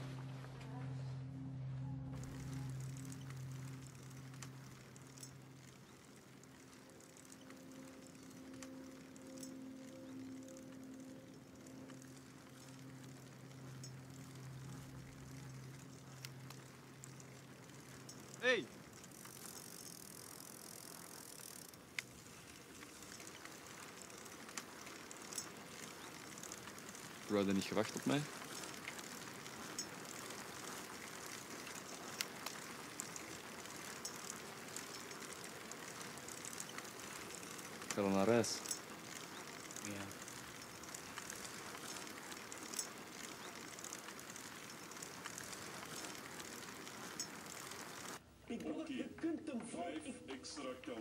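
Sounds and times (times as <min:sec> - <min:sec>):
bicycle clicks: 0:02.1 - 0:51.0
bicycle tyres hissing: 0:02.2 - 0:48.2.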